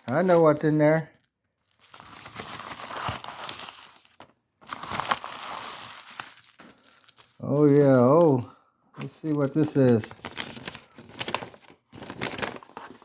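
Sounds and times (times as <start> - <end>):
packaging crinkling: 1.1 - 8.4, 9.0 - 13.0.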